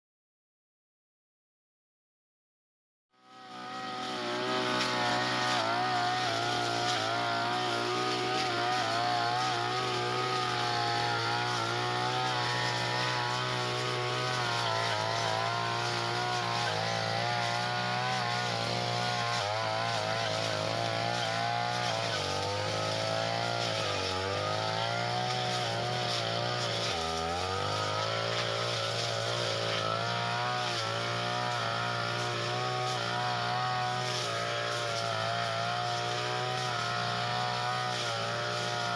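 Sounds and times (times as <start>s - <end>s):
brush cutter engine running: 3.2s - 38.9s.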